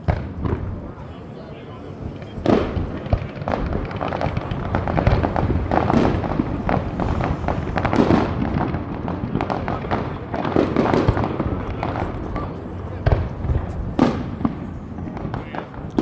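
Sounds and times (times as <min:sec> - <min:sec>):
fireworks popping and crackling: 0:00.0 - 0:16.0
loud firework bangs: 0:00.0 - 0:16.0.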